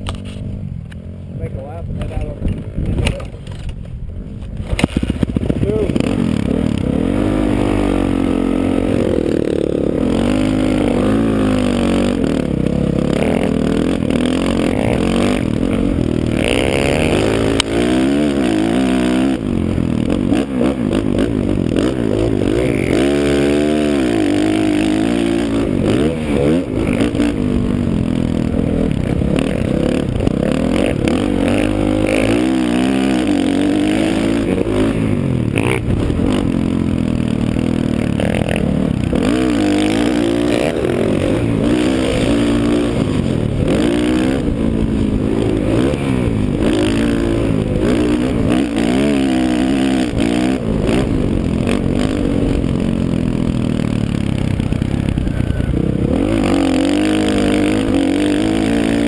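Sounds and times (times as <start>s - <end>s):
dirt bike engine revving: 4.6s - 59.0s.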